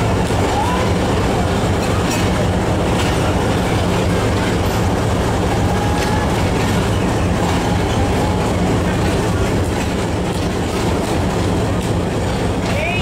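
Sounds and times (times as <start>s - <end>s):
train wheels rumbling on rails: 0.0s - 13.0s
wheels clicking over rail joints: 0.0s - 13.0s.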